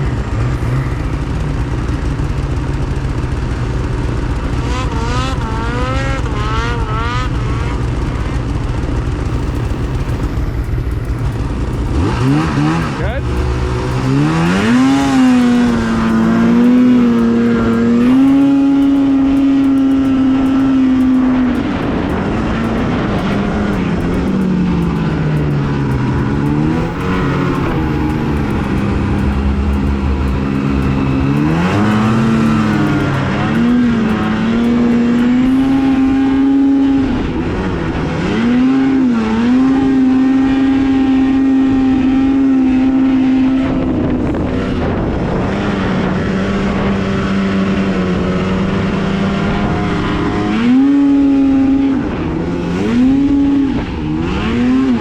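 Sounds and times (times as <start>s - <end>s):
snowmobile engine revving high: 0.0s - 55.0s.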